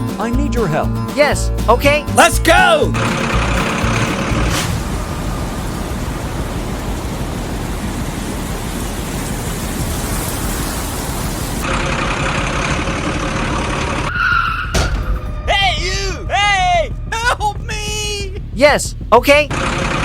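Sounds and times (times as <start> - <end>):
heavy vehicle engine running: 1.5 - 14.8, 16.6 - 20.0.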